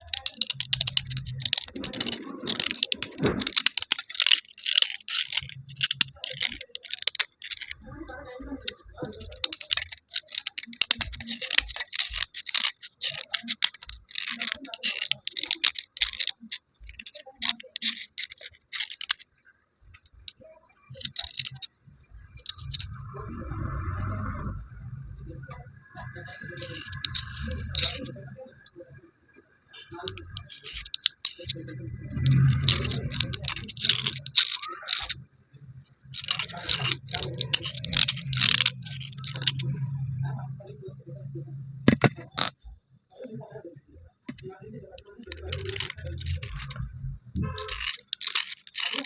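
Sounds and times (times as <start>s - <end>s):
rubbing scraping noise: 0.0s - 19.3s, 19.9s - 25.0s, 26.0s - 28.2s, 29.8s - 42.8s, 44.2s - 49.0s
slate pieces crunching and clicking: 0.0s - 23.0s, 26.4s - 28.2s, 29.8s - 35.2s, 35.9s - 40.2s, 41.8s - 42.6s, 44.3s - 49.0s.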